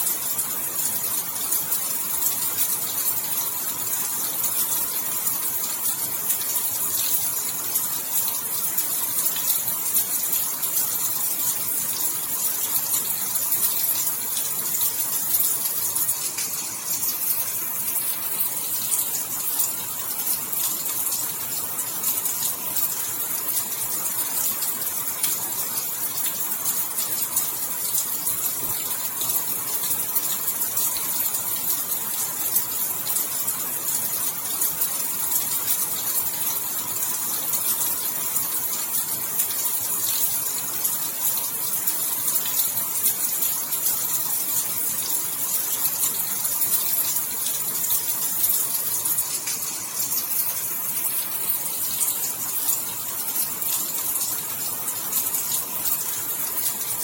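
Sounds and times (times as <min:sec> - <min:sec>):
heavy rainfall: 0:00.0 - 0:57.0.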